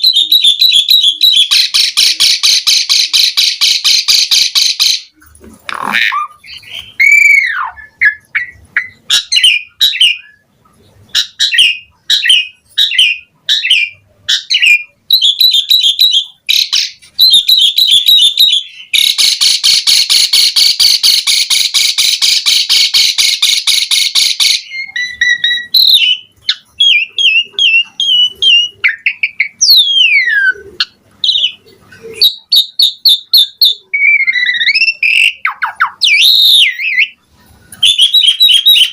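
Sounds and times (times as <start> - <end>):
starling singing whistles: 0.0 - 5.1, 6.2 - 10.5, 11.2 - 37.2, 37.8 - 38.9.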